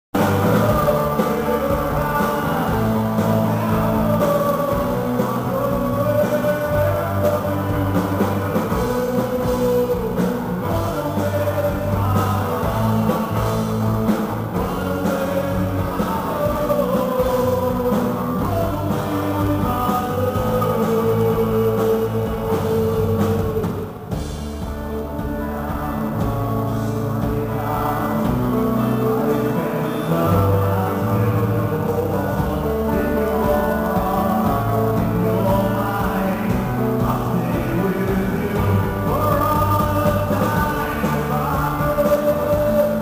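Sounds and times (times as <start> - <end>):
rock song with singer: 0.0 - 43.0.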